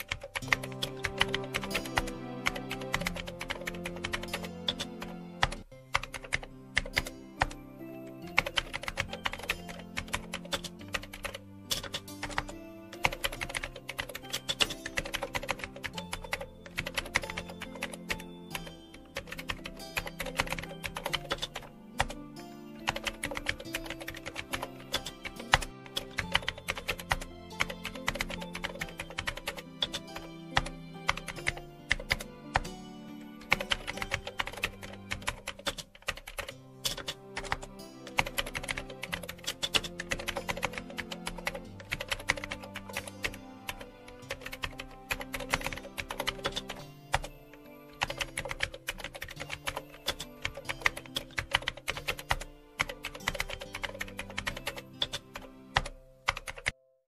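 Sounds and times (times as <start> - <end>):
keyboard typing clicks: 0.0 - 22.2, 22.8 - 56.8
soft background music: 0.0 - 57.0.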